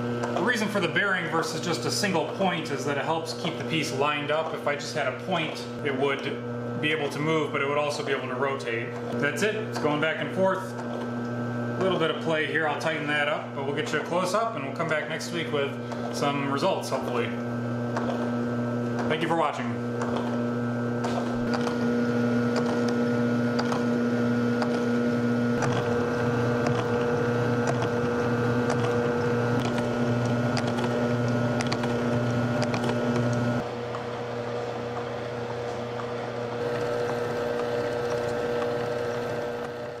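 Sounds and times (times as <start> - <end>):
electric motor hum: 0.0 - 40.0.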